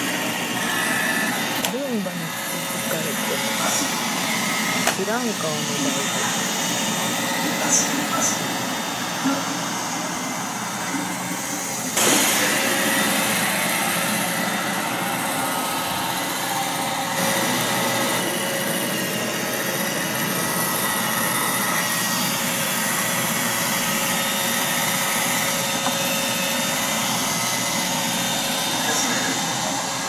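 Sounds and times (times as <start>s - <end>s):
robot vacuum whirring: 0.0s - 30.0s.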